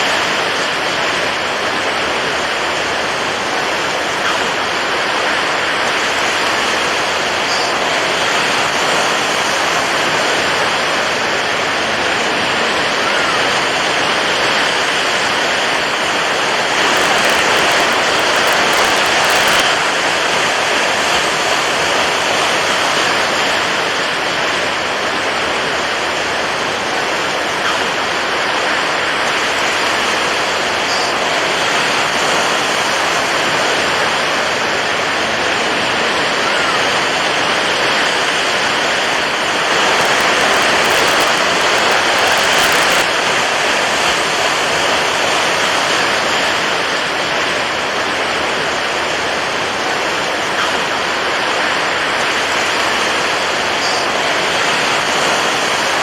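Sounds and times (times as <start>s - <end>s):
water waves rushing: 0.0s - 56.0s.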